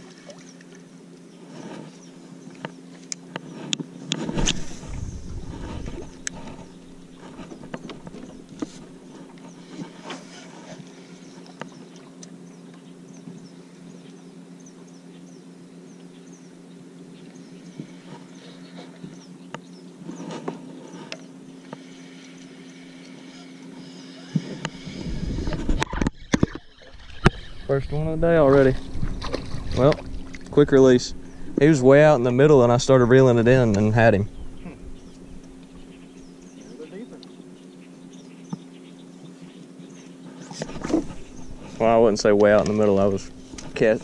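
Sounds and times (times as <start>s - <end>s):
low handling rumble: 0.0s - 44.0s
electric motor humming: 0.1s - 14.6s, 17.0s - 44.0s.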